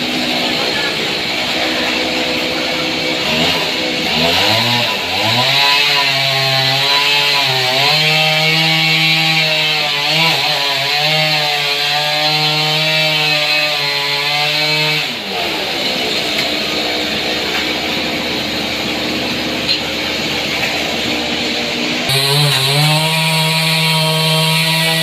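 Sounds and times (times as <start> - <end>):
saw motor tone: 0.0 - 25.0
sawmill saw cutting log: 0.0 - 25.0.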